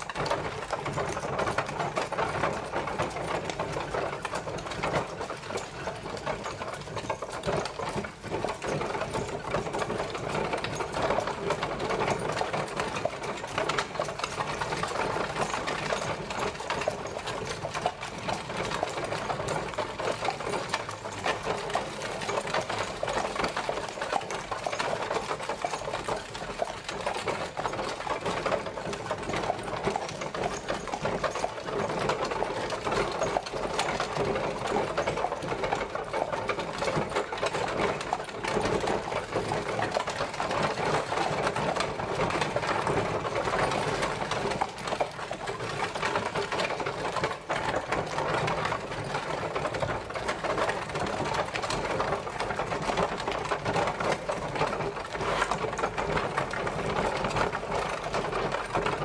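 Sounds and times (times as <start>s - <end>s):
carriage wheels rattling: 0.0s - 59.0s.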